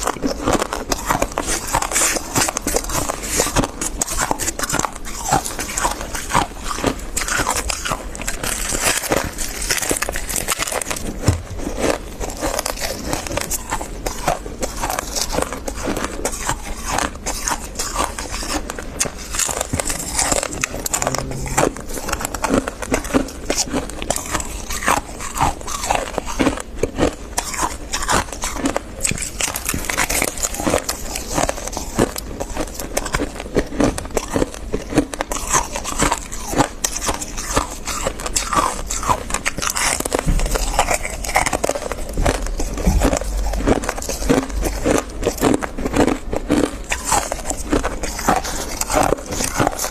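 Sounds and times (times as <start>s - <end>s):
chewing crispy frost: 0.0s - 49.9s.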